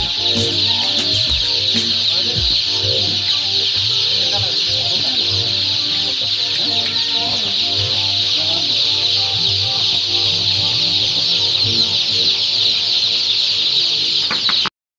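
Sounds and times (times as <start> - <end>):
chicks peeping: 0.0 - 14.7.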